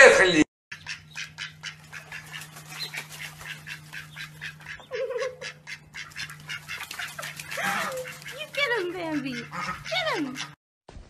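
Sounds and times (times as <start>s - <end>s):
duckling peeping: 0.7s - 10.6s.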